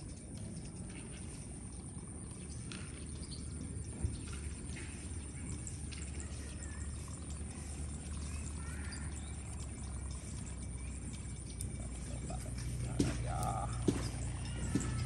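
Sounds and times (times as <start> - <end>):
faint bird chirps: 0.6 - 15.0.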